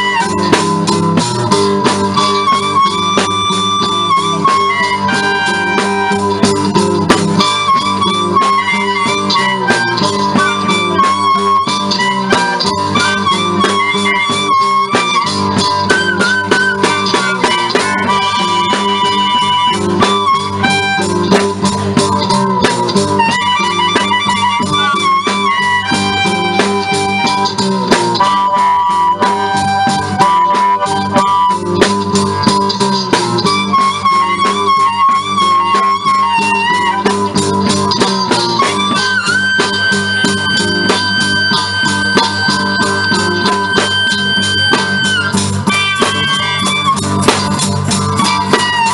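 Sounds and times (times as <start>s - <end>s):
blues harmonica: 0.0s - 48.9s
rhythmic guitar accompaniment: 0.0s - 48.9s.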